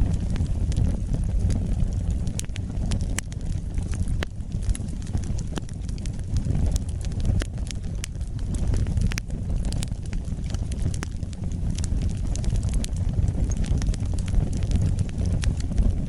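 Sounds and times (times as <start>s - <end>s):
burning wood crackling and popping: 0.0s - 16.0s
low rumble of flames: 0.0s - 16.0s.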